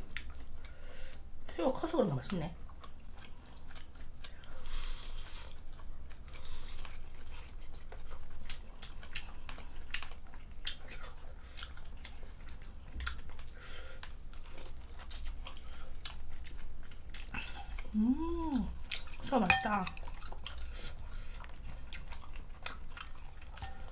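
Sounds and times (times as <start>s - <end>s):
people chewing food: 0.0s - 23.9s.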